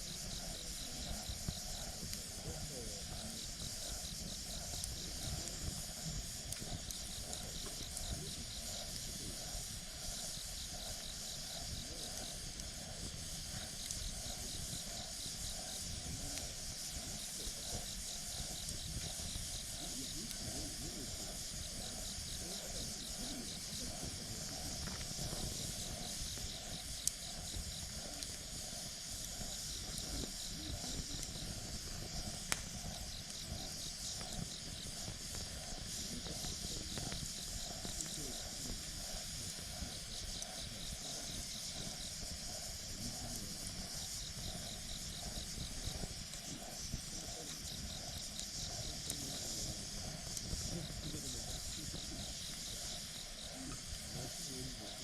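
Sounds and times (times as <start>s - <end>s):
wood fire hissing and crackling: 0.0s - 55.0s
sharp fire pops: 0.1s - 54.7s.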